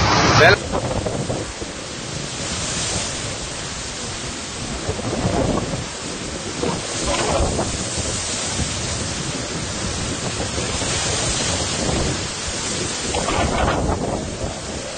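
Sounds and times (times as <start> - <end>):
strong wind on microphone: 0.0 - 14.9
surf breaking on shore: 0.0 - 14.9.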